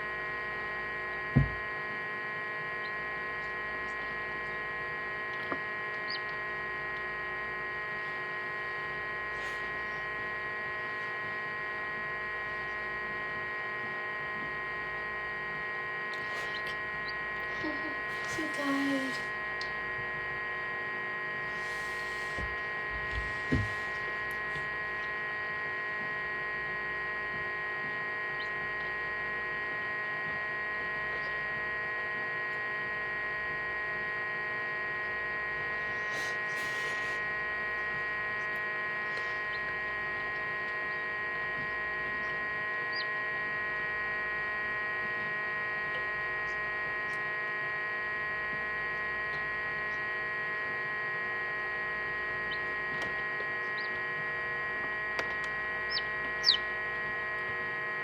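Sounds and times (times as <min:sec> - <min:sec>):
incubator electrical hum: 0:00.0 - 0:58.0.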